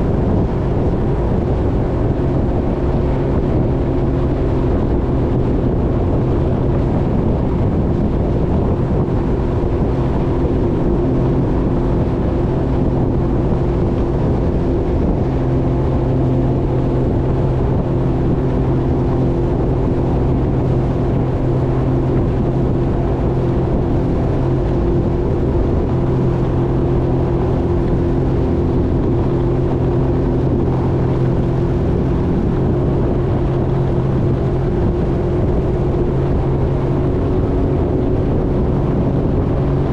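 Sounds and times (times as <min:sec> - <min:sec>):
jet ski engine running: 0:00.0 - 0:39.9.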